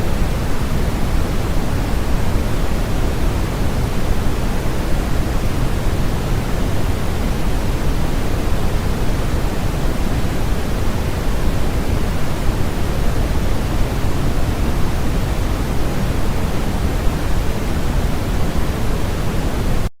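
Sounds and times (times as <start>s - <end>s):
steady pink noise: 0.0s - 19.9s.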